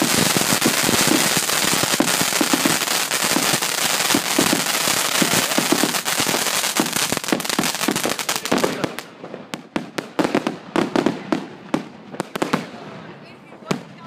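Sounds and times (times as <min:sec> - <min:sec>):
firecrackers and fireworks bangs: 0:00.0 - 0:14.0.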